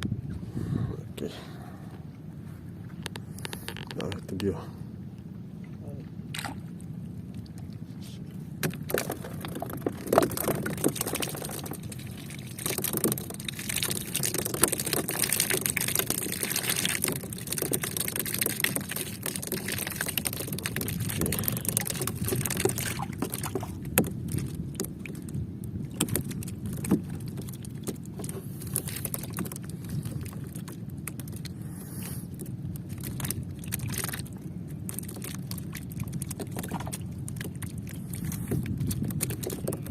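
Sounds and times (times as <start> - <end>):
water splashing: 6.2 - 7.8, 8.6 - 39.9.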